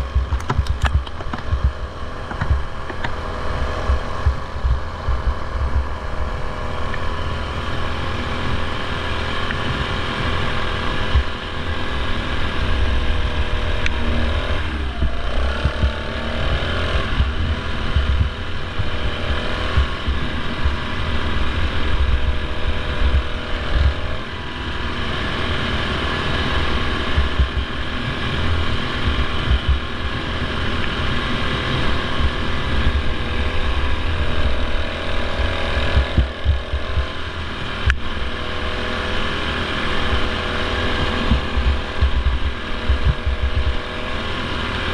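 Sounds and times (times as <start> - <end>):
wind buffeting microphone: 0.0 - 24.3, 26.0 - 38.5, 40.0 - 44.0
mower engine running hard: 0.0 - 44.9.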